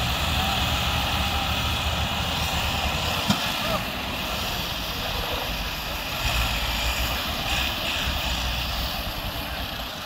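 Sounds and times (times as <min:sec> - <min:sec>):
tractor diesel engines under load: 0:00.0 - 0:10.0.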